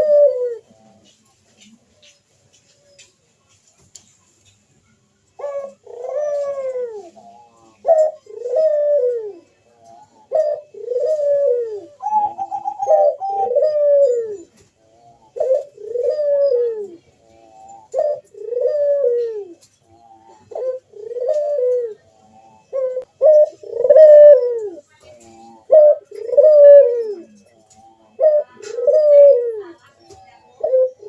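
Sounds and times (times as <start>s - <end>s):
dove cooing: 0.0s - 3.0s, 5.3s - 31.0s.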